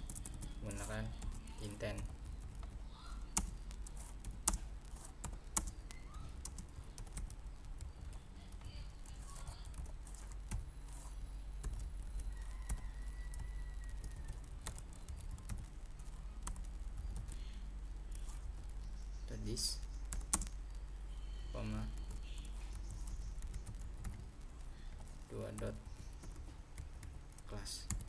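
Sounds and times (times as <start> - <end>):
keyboard typing clicks: 0.0 - 17.5, 19.9 - 20.7, 21.7 - 28.0
low steady hum: 0.0 - 28.0.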